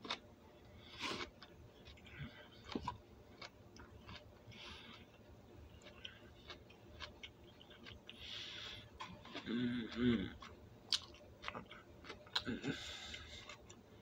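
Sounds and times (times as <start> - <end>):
chewing crunches: 0.9 - 13.8.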